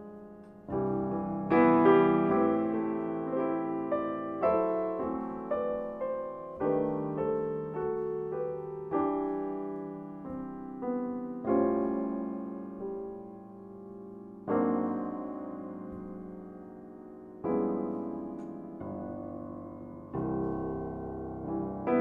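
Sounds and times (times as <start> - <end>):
piano ballad in chords: 0.0 - 22.0.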